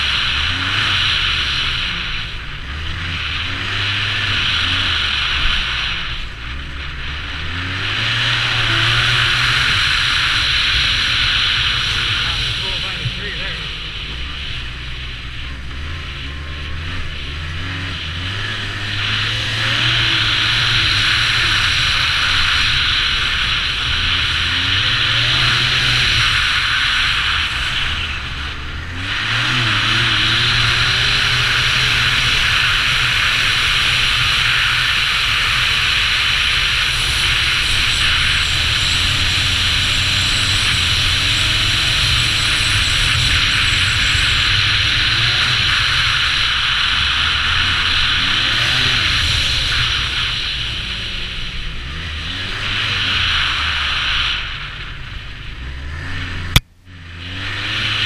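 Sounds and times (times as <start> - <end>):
snowmobile engine under throttle: 0.0 - 58.0.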